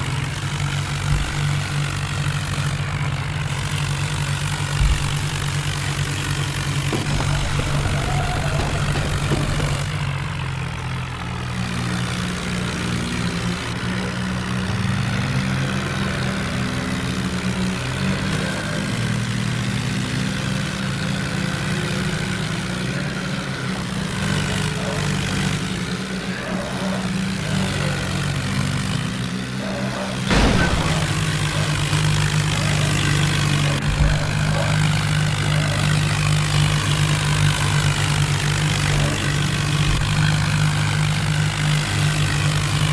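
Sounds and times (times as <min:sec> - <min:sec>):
tractor diesel engine droning: 0:00.0 - 0:42.9.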